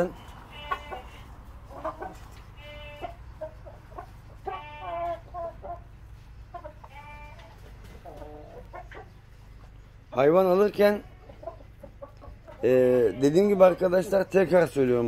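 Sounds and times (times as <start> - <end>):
hens clucking: 0.0 - 15.0
low background hum: 0.0 - 15.0.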